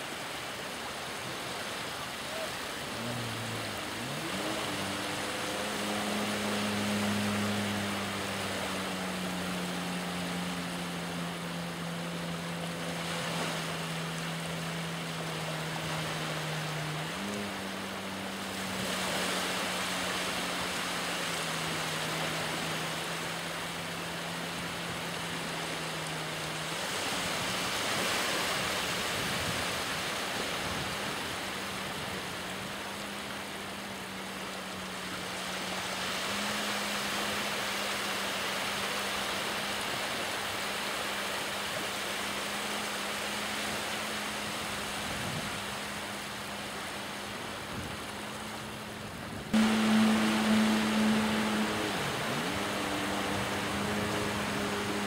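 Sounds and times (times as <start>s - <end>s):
distant jet ski engine droning: 0.0s - 55.0s
waves: 0.0s - 55.0s
wind: 0.0s - 55.0s.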